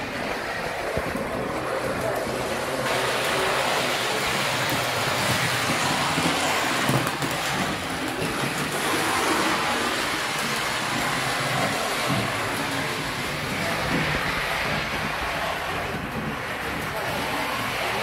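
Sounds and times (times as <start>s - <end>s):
model trains rolling on track: 0.0s - 18.0s.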